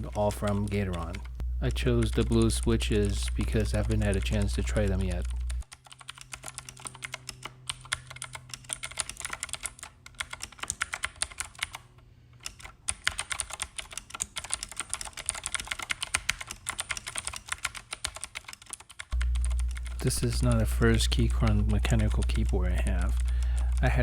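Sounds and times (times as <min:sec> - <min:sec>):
clicky mechanical keyboard typing: 0:00.0 - 0:24.0.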